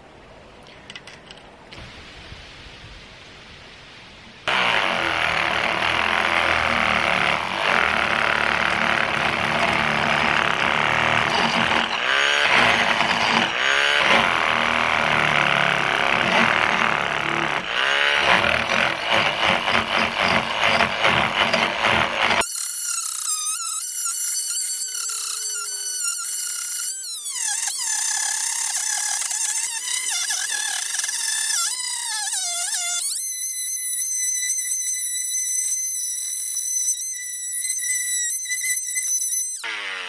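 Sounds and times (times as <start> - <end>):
oscillating multi-tool scraping paint: 4.5 - 40.0.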